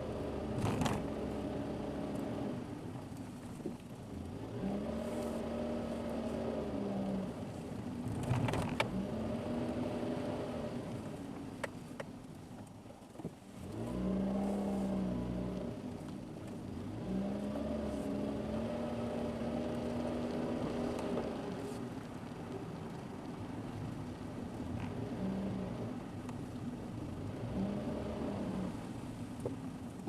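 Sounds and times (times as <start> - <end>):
car engine: 0.0 - 30.0
road noise inside car: 0.0 - 30.0.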